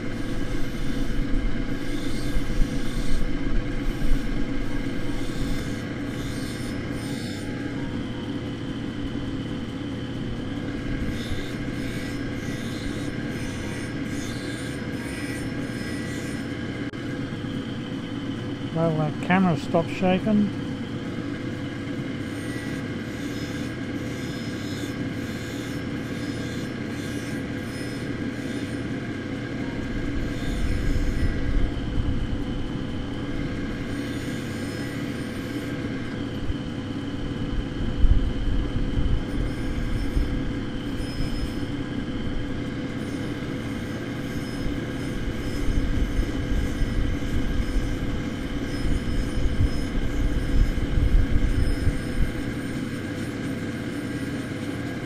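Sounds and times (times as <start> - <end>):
rough grinding noise: 0.0 - 16.9, 21.1 - 31.9, 38.3 - 55.0
grinding machine motor hum: 0.0 - 55.0.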